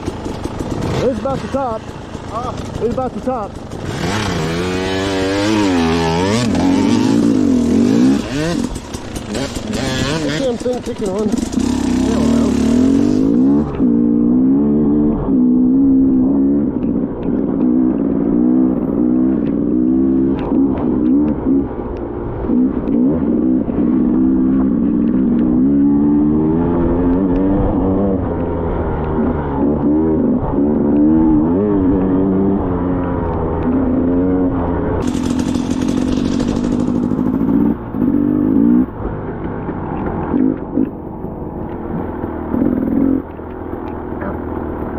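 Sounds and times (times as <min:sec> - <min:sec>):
two-stroke dirt bike engine: 0:00.0 - 0:44.9.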